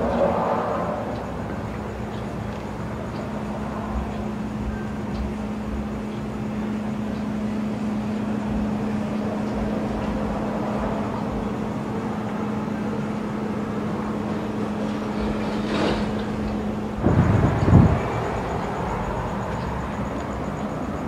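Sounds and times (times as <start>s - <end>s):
constant rushing noise: 0.0s - 21.0s
machine humming: 0.0s - 21.0s.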